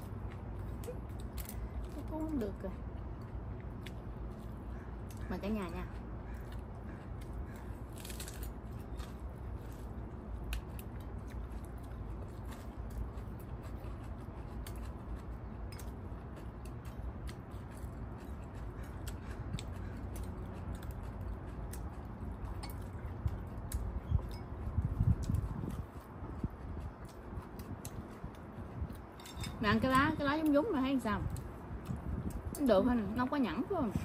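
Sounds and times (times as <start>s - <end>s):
people chewing and crunching: 0.0s - 33.0s
low background rumble: 0.0s - 34.0s.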